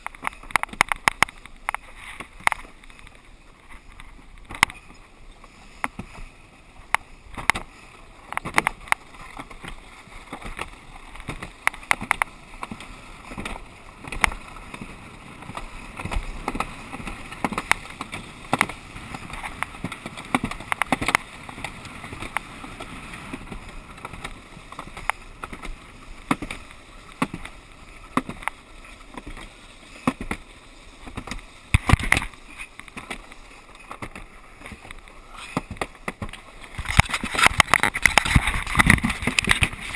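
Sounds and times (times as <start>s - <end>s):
sled knocking and rattling: 0.0s - 39.9s
sled scraping down track: 0.0s - 39.9s.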